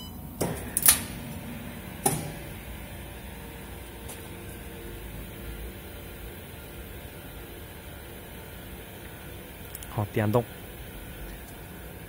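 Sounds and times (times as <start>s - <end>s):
mixer machine humming: 0.0s - 12.0s.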